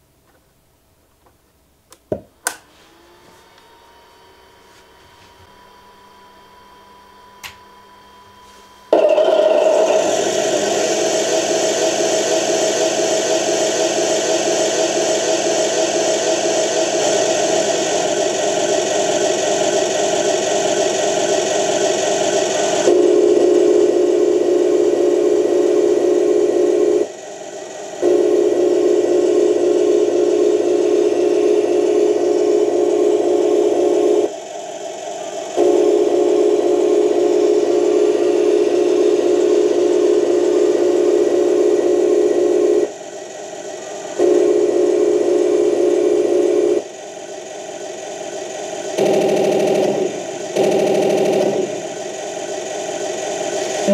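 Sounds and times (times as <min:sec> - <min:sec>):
simulated tank engine from small speaker: 0:08.9 - 0:53.9.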